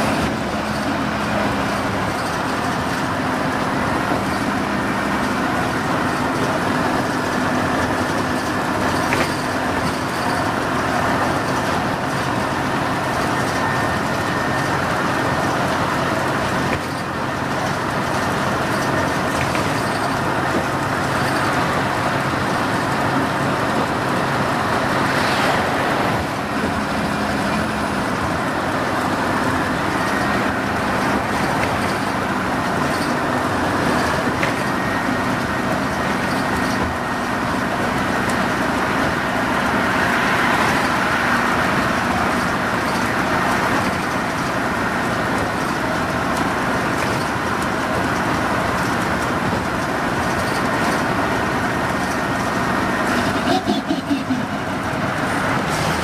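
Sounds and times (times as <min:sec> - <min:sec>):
bus engine running: 0:00.0 - 0:56.0
road and tyre noise: 0:00.0 - 0:56.0.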